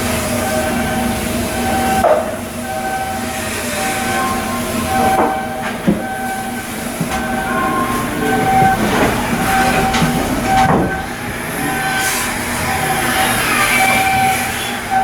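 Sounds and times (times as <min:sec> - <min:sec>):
machinery noise: 0:00.0 - 0:15.0
stepping tone signal: 0:00.4 - 0:15.0.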